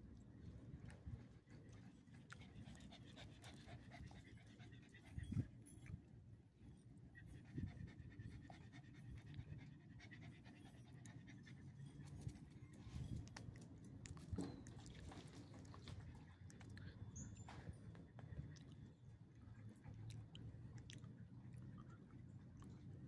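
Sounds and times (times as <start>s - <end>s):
dog panting faintly: 0.8s - 6.0s, 6.9s - 23.0s.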